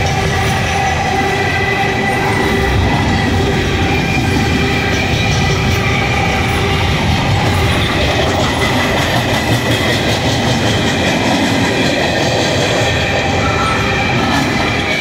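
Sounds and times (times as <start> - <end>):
train wheels rumbling on rail: 0.0 - 15.0
wheels squealing: 0.0 - 15.0.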